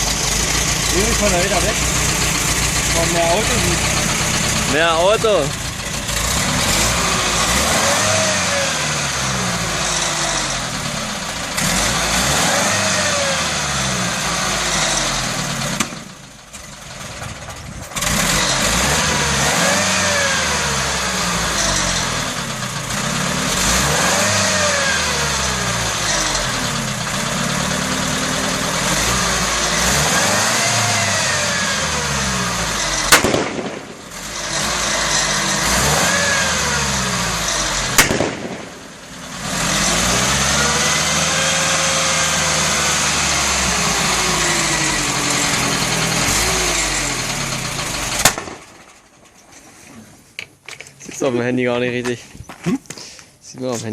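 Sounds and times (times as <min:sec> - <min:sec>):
truck engine revving: 0:00.0 - 0:49.3
exhaust backfire bang: 0:00.0 - 0:49.4.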